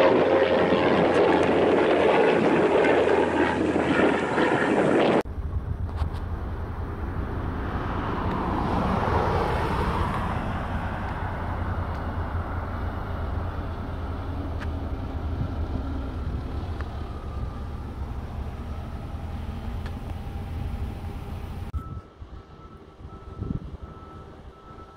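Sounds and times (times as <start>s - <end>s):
propeller airplane engine drone: 0.0s - 24.9s.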